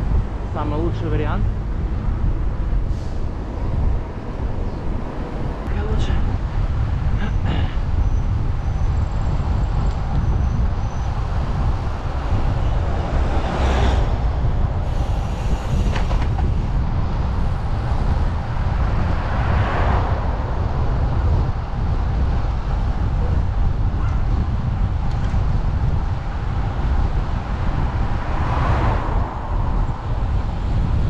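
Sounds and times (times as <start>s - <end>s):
wind and road noise rumble: 0.0s - 31.0s.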